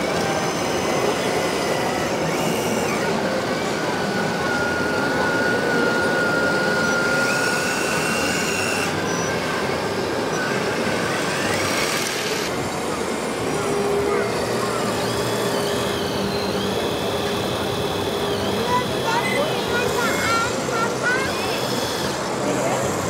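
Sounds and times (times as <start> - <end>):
high motor whine: 0.0 - 23.0
higher motor whine: 0.0 - 23.0.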